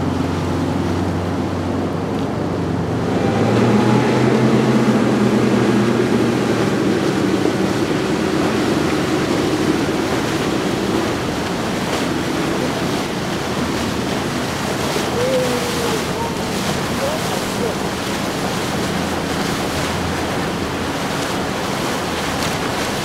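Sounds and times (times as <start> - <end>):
outboard motors humming: 0.0 - 23.0
rush of wake and choppy water: 0.0 - 23.0.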